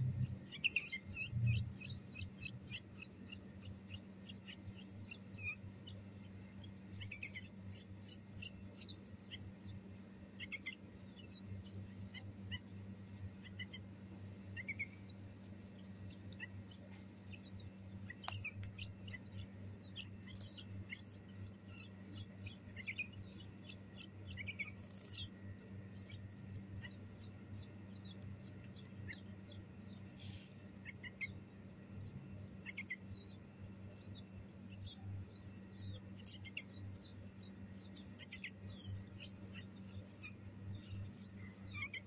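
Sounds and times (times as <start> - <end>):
steady low hum: 0.0 - 42.0
nestlings chirping: 0.3 - 42.0.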